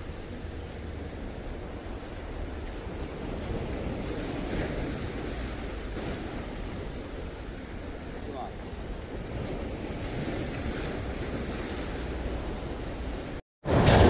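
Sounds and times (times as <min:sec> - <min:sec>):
sea waves washing in: 0:00.0 - 0:14.0
wind rumbling on microphone: 0:00.0 - 0:14.0.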